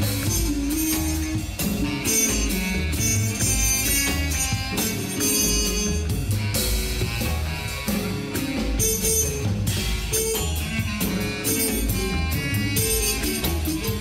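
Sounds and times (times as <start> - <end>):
background music with guitar and drums: 0.0 - 14.0.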